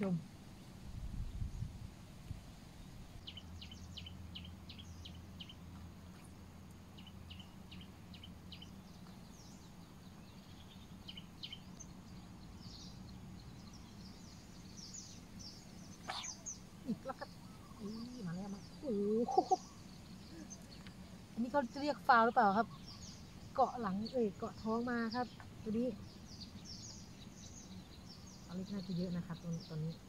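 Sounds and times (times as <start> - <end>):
low steady hum: 0.0 - 30.0
birds chirping: 2.7 - 30.0.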